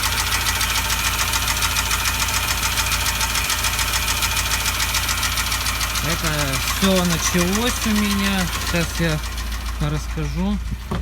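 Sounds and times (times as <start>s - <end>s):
car engine idling: 0.0s - 11.0s
rapid engine knocking: 0.0s - 11.0s.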